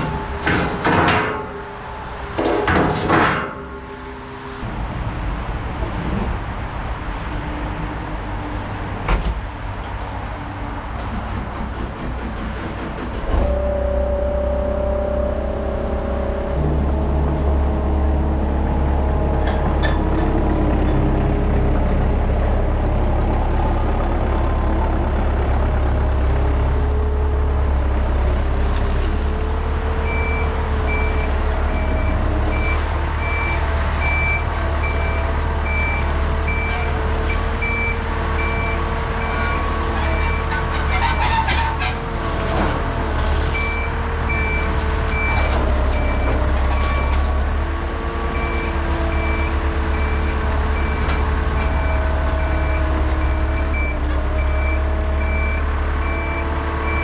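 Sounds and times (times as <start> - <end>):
heavy diesel engine under load: 0.0 - 57.0.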